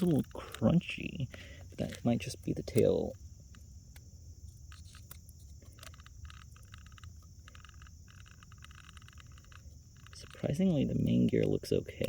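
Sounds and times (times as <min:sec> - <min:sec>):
crunchy clicking of gears: 0:00.0 - 0:12.0.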